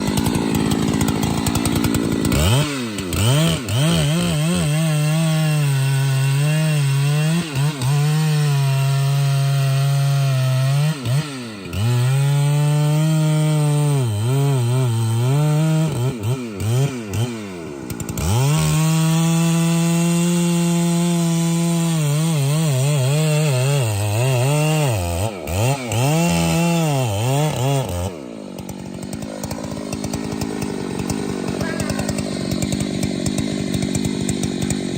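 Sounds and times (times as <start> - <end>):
chainsaw cutting tree trunk: 0.0 - 34.9.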